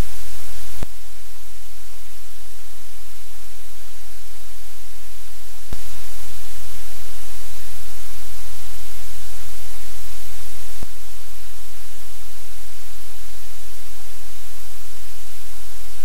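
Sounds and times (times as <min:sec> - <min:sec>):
low electrical hum: 0:00.0 - 0:16.0
static hiss: 0:00.0 - 0:16.0.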